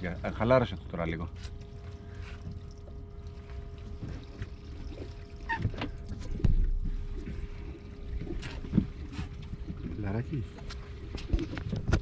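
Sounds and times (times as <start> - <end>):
faint steady hum: 0.0 - 12.0
water sloshing around boat: 0.0 - 12.0.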